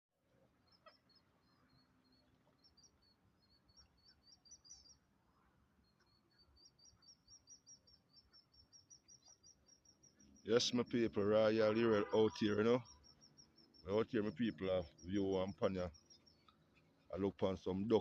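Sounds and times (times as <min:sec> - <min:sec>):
birds chirping: 0:00.5 - 0:18.0.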